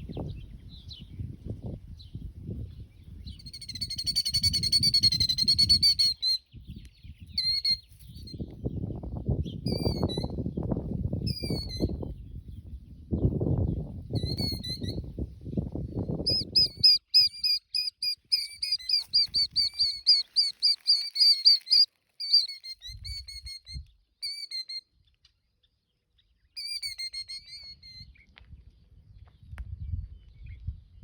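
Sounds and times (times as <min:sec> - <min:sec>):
bird chirping: 0:02.0 - 0:10.7, 0:11.3 - 0:28.3.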